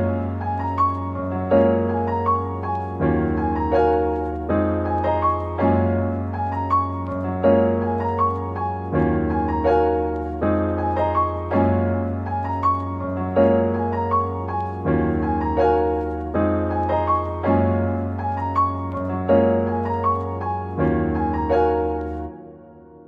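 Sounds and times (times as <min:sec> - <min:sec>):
keyboard chords: 0:00.0 - 0:23.0.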